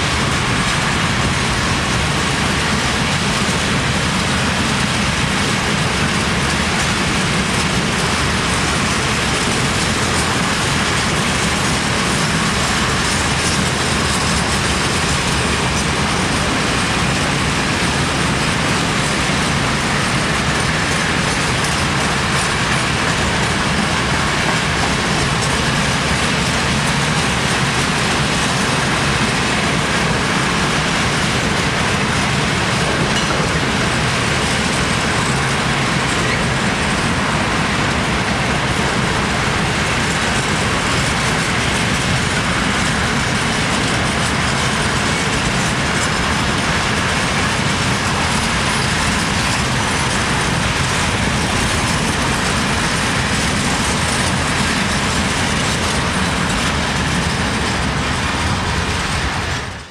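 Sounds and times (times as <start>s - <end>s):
freight wagons rolling on rails: 0.0s - 59.9s.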